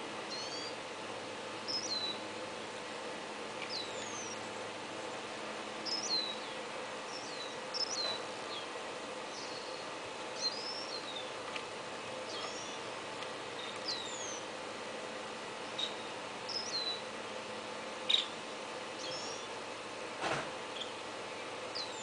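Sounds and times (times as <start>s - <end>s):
steady background noise: 0.0s - 22.0s
small birds chirping: 0.1s - 19.8s, 20.6s - 22.0s.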